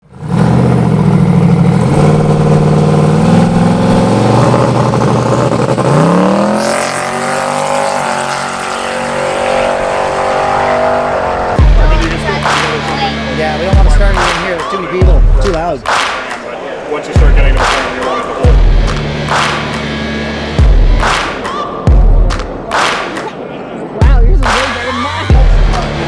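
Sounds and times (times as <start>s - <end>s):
car engine revving: 0.0s - 23.5s, 24.4s - 26.0s.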